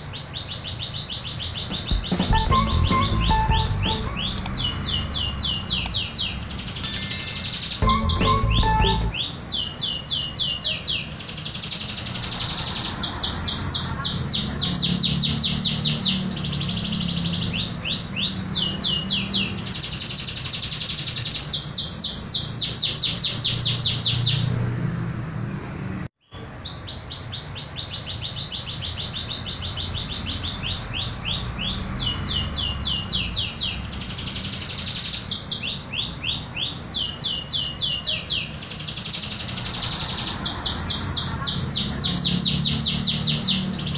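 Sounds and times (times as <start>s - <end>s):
canary singing trills: 0.0s - 24.8s, 26.2s - 43.9s.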